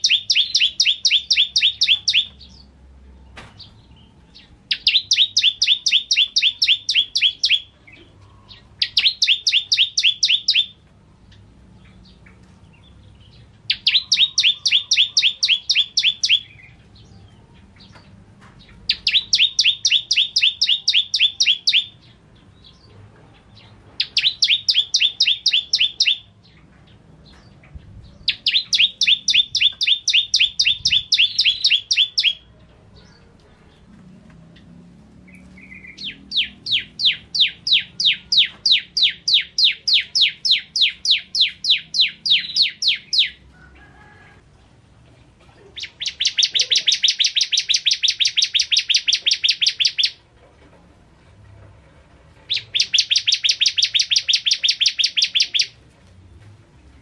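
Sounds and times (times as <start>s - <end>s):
bird singing rapid high chirps: 0.0s - 2.8s, 3.6s - 22.9s, 23.5s - 26.6s, 27.4s - 33.2s, 35.3s - 43.4s, 45.8s - 50.2s, 52.5s - 55.8s.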